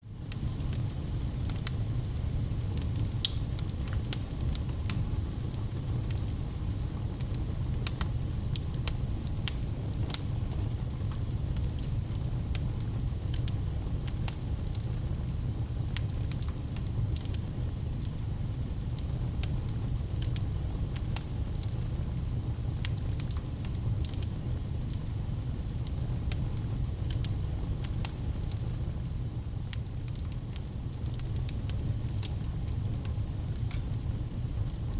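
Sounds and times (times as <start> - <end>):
low fire rumble: 0.0 - 34.9
campfire crackling and popping: 0.2 - 6.4, 7.0 - 22.2, 22.8 - 34.9.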